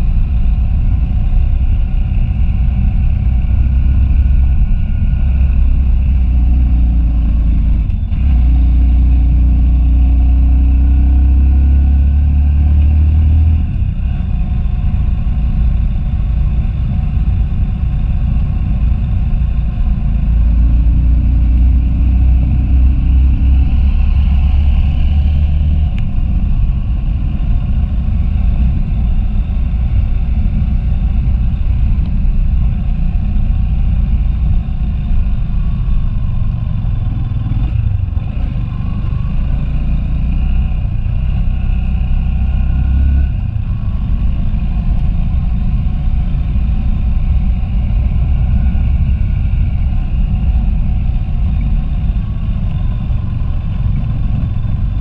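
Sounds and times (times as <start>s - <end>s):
motorcycle engine rumbling: 0.0s - 12.1s, 13.1s - 55.0s.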